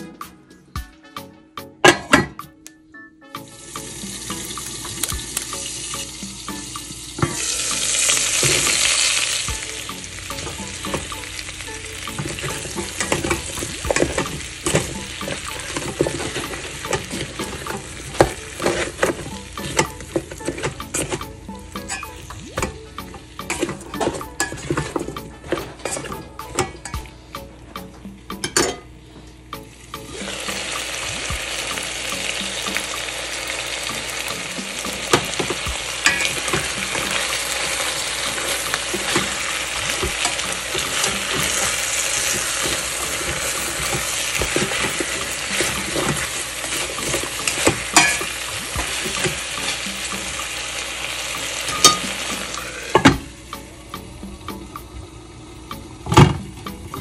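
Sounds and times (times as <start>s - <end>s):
food sizzling in a pot: 3.4s - 27.3s, 29.6s - 55.2s.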